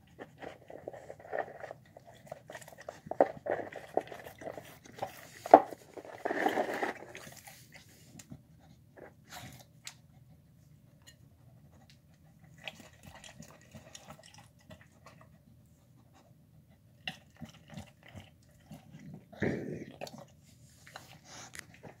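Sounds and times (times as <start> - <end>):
dogs licking a tile floor: 0.0 - 19.3, 19.9 - 22.0
dogs chewing and crunching: 0.0 - 22.0.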